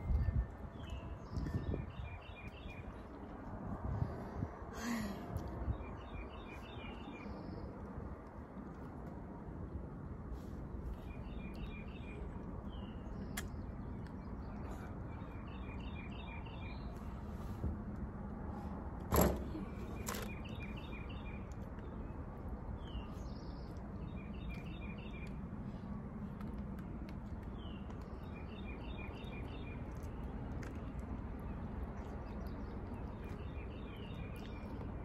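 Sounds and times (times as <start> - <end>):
songbird singing: 0.0 - 8.3, 10.8 - 17.6, 19.2 - 35.0.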